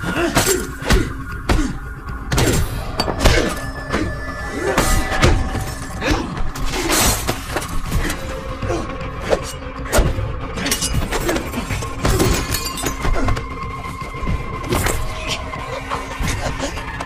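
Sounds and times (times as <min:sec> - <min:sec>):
tense music score: 0:00.0 - 0:17.0.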